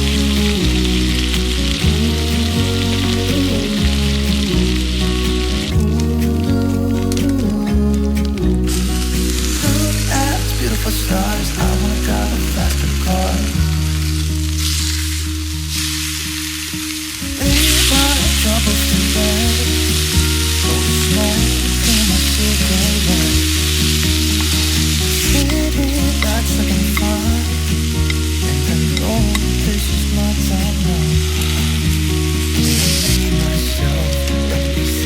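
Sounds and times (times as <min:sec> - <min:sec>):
instrumental background music: 0:00.0 - 0:35.0.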